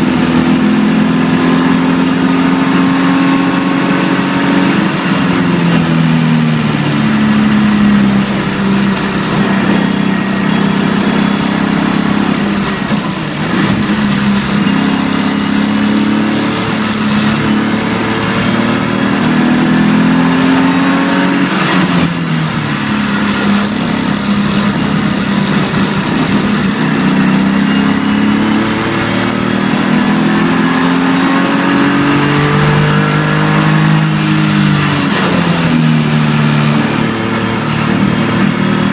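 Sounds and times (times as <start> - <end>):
car engine accelerating: 0.0 - 38.9
tyre and road noise: 0.0 - 38.9.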